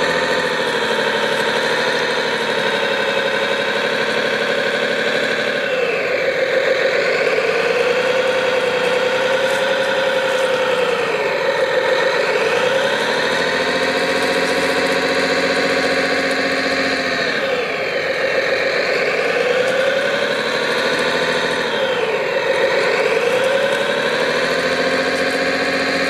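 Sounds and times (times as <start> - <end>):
model bulldozer engine running: 0.0 - 26.0.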